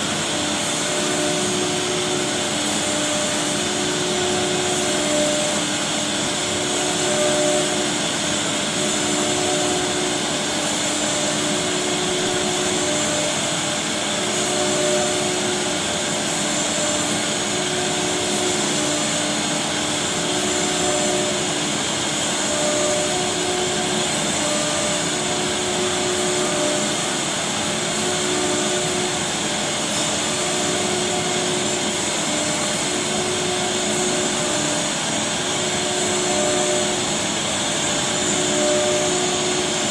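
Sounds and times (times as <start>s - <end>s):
dust extraction rushing: 0.0s - 39.9s
low machine hum: 0.0s - 39.9s
wood router high whine: 0.0s - 39.9s.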